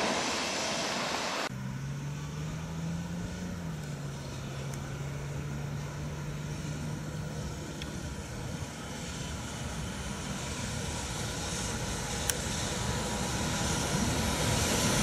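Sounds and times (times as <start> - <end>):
electric locomotive hum: 0.0 - 15.0.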